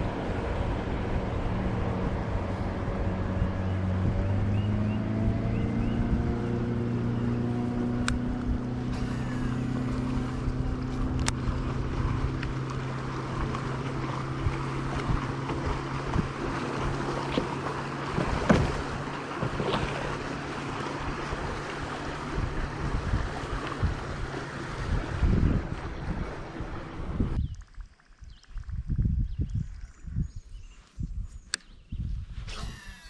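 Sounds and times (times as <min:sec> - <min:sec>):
wind noise: 0:00.0 - 0:17.2, 0:21.4 - 0:33.0
boat motor humming: 0:00.0 - 0:27.4, 0:32.5 - 0:33.0.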